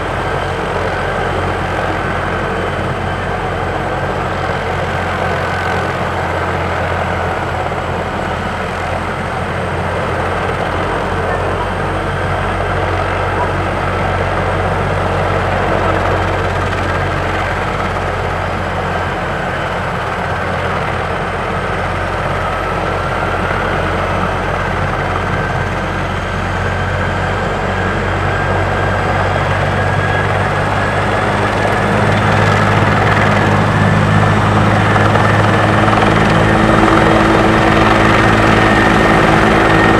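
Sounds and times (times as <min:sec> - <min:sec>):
faint engine whine: 0:00.0 - 0:39.9
helicopter engine and rotor drone: 0:00.0 - 0:39.9.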